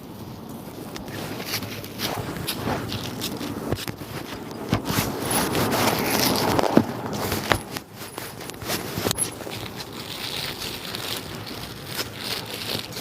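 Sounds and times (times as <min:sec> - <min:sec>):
clothing rustling and scraping: 0:00.0 - 0:13.0.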